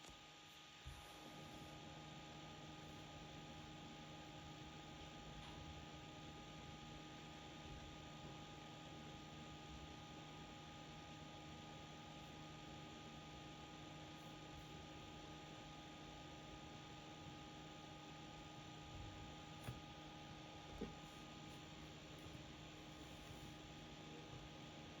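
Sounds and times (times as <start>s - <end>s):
faint hum and hiss: 0.0s - 25.0s.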